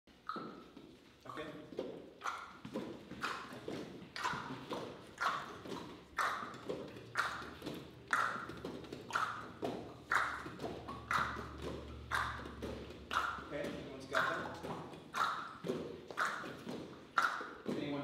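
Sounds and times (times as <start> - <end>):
vocal percussion clicks and pops: 0.1 - 1.5, 2.2 - 18.0.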